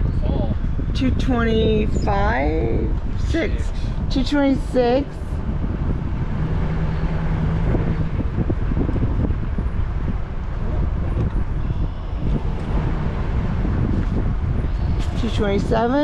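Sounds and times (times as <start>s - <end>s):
steady hum: 0.0s - 16.0s
vehicle low rumble: 0.0s - 16.0s.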